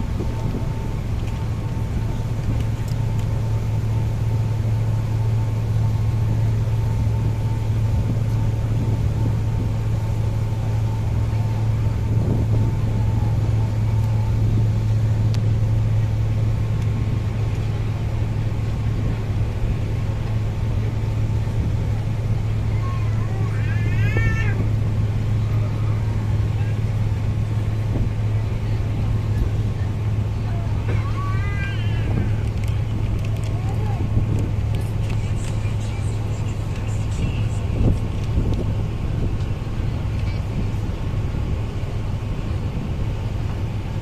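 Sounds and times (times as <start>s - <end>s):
low engine hum: 0.0s - 44.0s.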